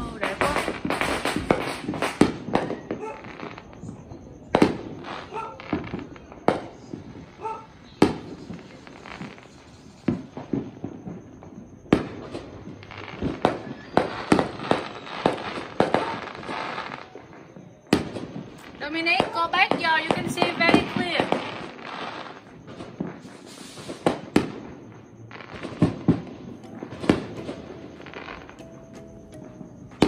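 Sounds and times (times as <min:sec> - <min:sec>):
fireworks bursting with sharp bangs: 0:00.0 - 0:30.0.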